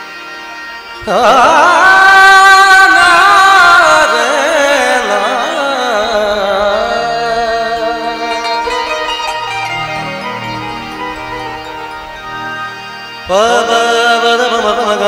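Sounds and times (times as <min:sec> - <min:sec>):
musical accompaniment: 0:00.0 - 0:15.0
melodic vocal line with vibrato: 0:01.0 - 0:15.0.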